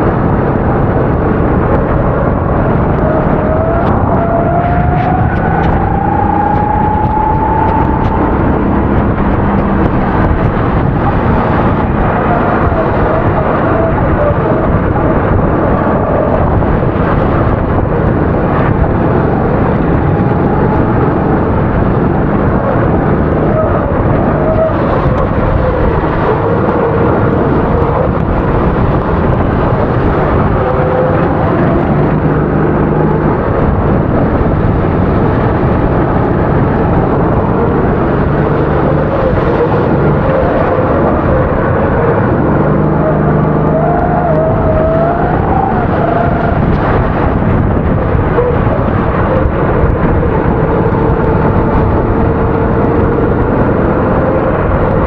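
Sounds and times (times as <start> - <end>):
dense rushing noise: 0.0 - 55.0
kart engine running hard: 0.0 - 55.0.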